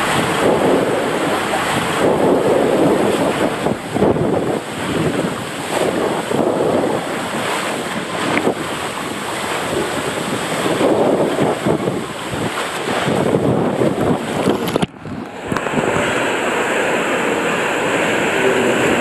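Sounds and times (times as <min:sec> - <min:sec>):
water rushing down a slide: 0:00.0 - 0:19.0.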